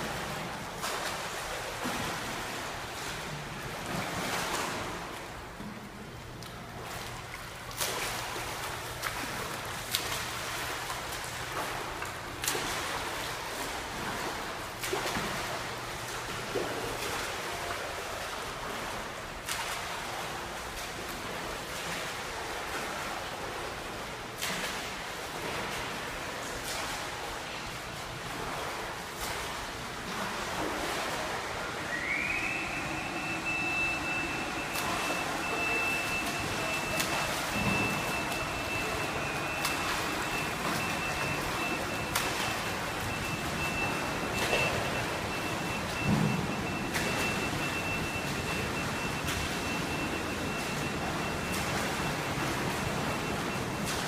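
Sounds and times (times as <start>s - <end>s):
swimmer splashing in pool: 0.0s - 5.5s, 6.6s - 54.0s.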